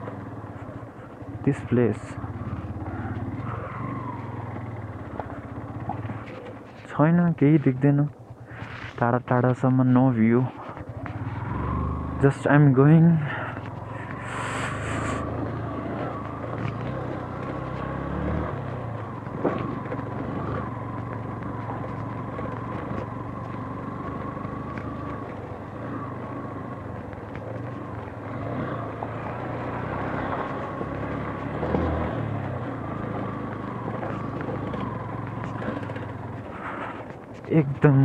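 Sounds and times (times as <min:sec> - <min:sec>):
motorcycle engine running: 0:00.0 - 0:38.0
tyres on loose gravel: 0:00.0 - 0:38.0.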